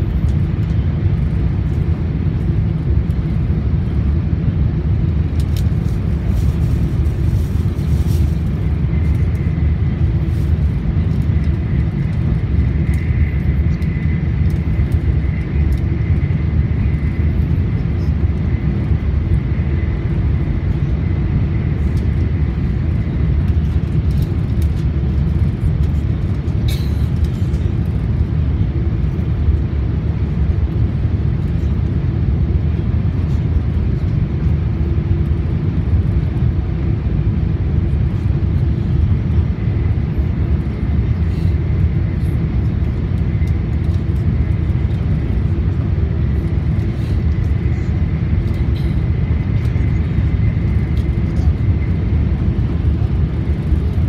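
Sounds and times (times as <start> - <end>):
faint steady whine: 0.0 - 54.0
train interior low rumble: 0.0 - 54.0.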